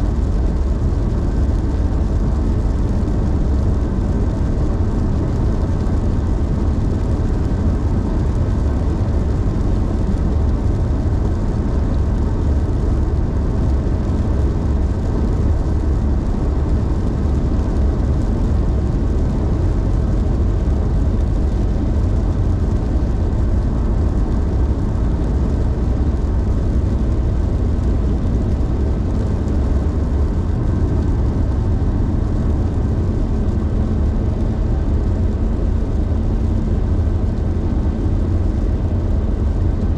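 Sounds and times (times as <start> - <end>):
car driving at highway speed: 0.0 - 39.9.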